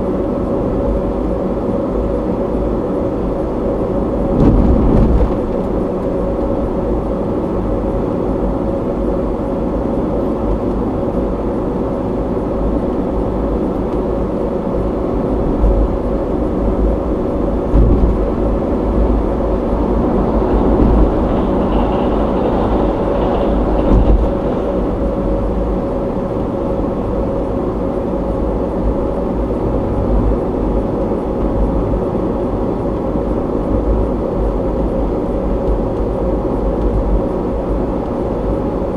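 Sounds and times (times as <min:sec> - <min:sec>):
car driving road noise: 0:00.0 - 0:38.9.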